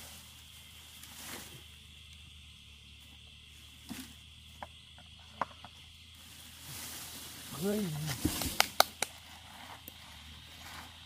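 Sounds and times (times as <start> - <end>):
dry leaves and twigs snapping: 0.0 - 10.5
high-pitched insect drone: 0.0 - 11.0.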